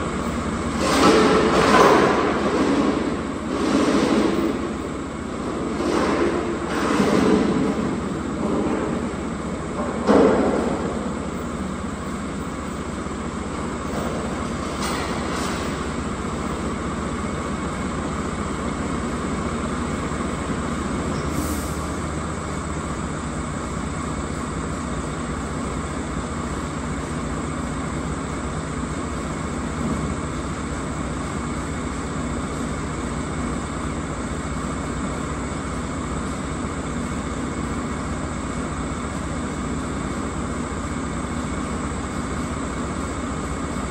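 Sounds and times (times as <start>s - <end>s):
diesel truck engine idling: 0.0s - 0.8s, 4.4s - 5.7s, 10.6s - 43.9s.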